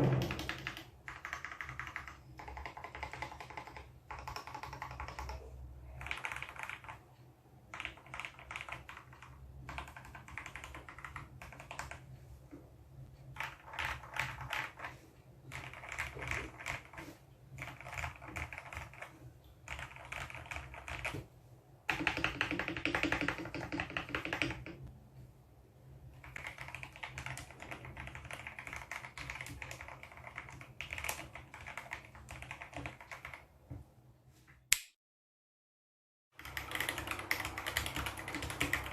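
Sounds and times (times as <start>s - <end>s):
mechanical keyboard typing: 0.0s - 7.1s, 7.7s - 12.1s, 13.3s - 21.3s, 21.9s - 24.9s, 26.1s - 33.5s, 36.4s - 38.9s.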